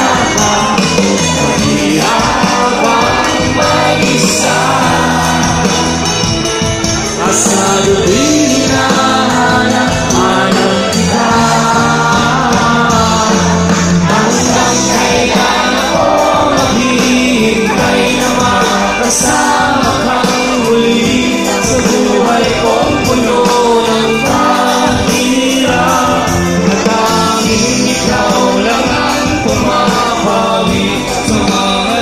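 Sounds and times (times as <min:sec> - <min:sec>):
lead singer singing: 0:00.0 - 0:32.0
live band playing: 0:00.0 - 0:32.0.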